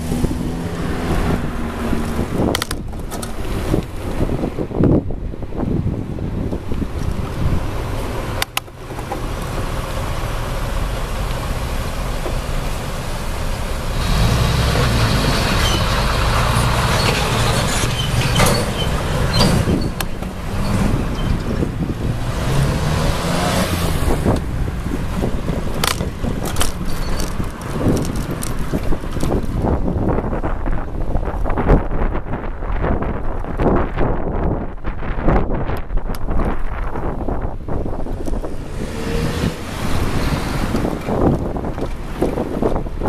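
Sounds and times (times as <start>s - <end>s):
wind rumble on microphone: 0.0s - 8.4s, 12.3s - 43.0s
road traffic: 0.0s - 43.0s.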